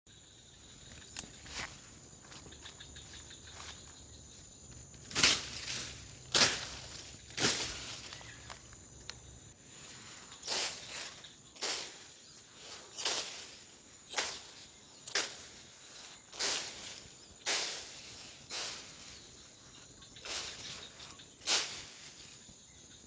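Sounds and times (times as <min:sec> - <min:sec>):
high insect drone: 0:00.1 - 0:23.0
footsteps crunching through undergrowth: 0:00.6 - 0:22.5.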